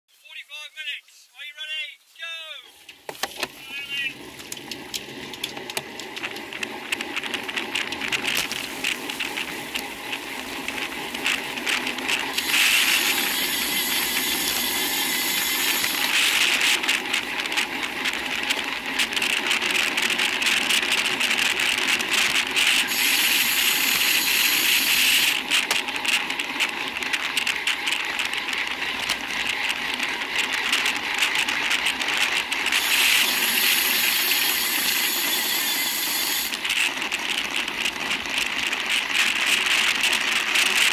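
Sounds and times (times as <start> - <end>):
wind and road noise: 2.8 - 40.9.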